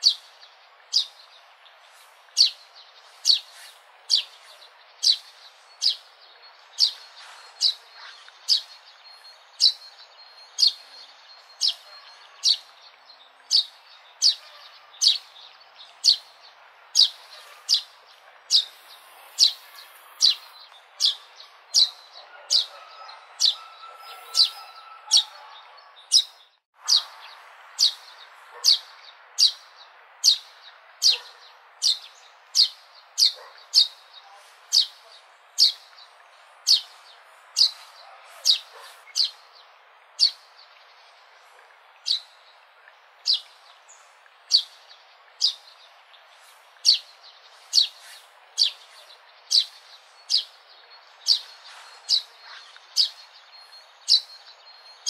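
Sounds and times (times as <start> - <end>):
sparrow chirping: 0.0 - 41.0, 42.0 - 42.5, 43.2 - 55.0.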